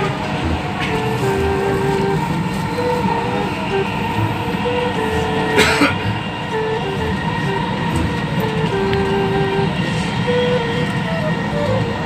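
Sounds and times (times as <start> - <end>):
faint shifting tones: 0.0 - 12.0
train carriage rumbling: 0.0 - 12.0.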